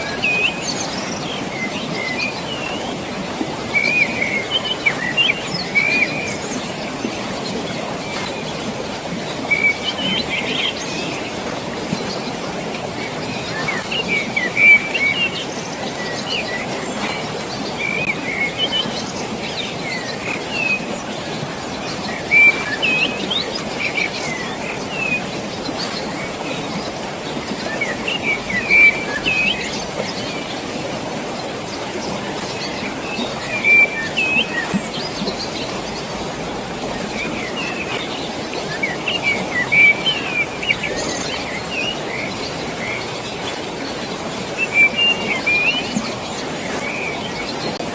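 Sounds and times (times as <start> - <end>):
flowing water: 0.0 - 47.9.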